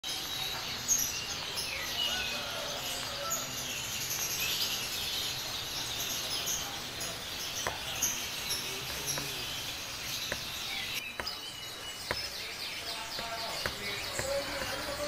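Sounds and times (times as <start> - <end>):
small songbirds chirping: 0.0 - 15.0.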